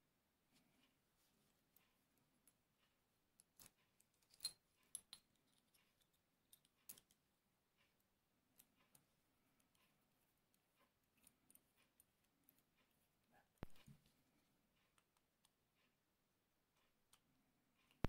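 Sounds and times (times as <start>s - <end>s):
faint metallic clicks and taps: 0.5s - 16.0s, 16.7s - 18.0s.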